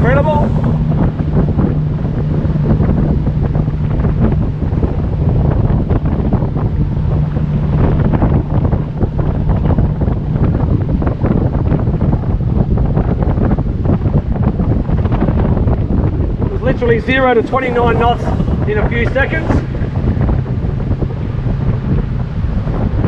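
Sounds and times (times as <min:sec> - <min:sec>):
outboard motor hum: 0:00.0 - 0:23.0
water slapping boat hull: 0:00.0 - 0:23.0
wind buffeting microphone: 0:00.0 - 0:23.0.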